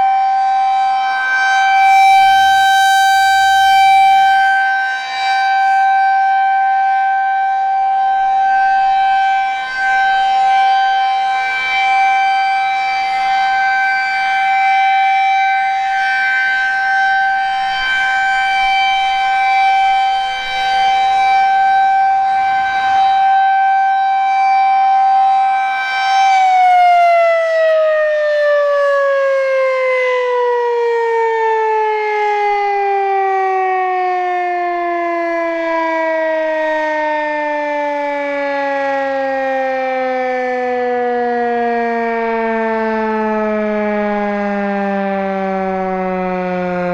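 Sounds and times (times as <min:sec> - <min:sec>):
warning siren winding down: 0:00.0 - 0:46.9.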